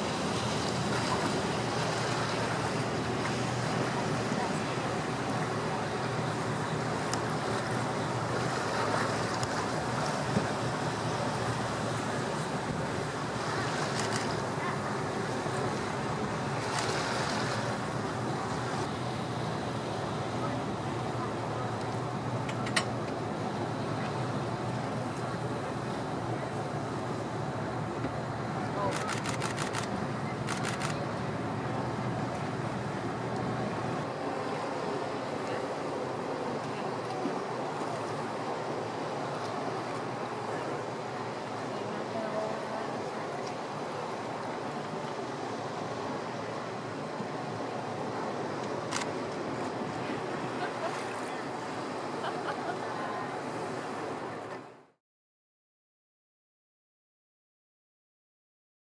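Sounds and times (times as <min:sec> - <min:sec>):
water washing around boat: 0:00.0 - 0:55.0.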